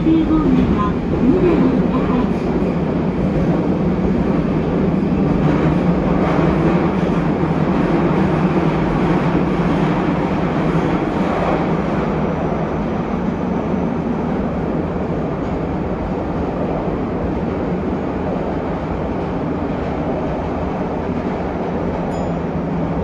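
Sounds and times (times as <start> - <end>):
subway train rumbling in tunnel: 0.0 - 23.0.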